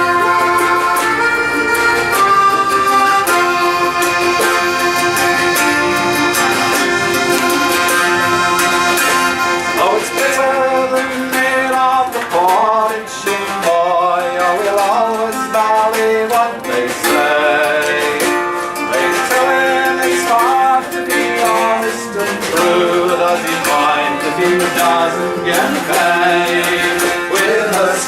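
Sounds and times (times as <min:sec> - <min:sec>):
accordion: 0:00.0 - 0:28.0
strummed guitar: 0:00.0 - 0:28.0
wavering melody line: 0:00.0 - 0:28.0.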